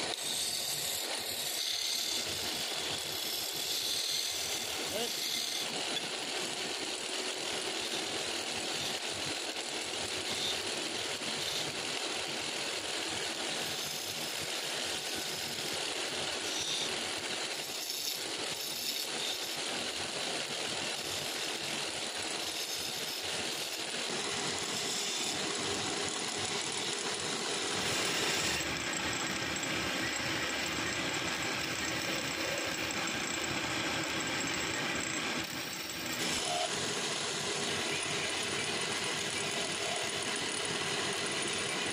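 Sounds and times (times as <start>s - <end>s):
chisel scraping spinning wood: 0.0s - 12.5s, 13.3s - 41.9s
wood lathe running: 0.0s - 41.9s.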